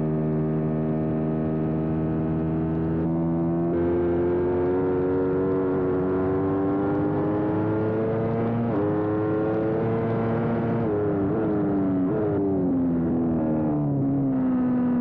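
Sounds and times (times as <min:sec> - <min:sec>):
motorcycle engine at full throttle: 0:00.0 - 0:15.0.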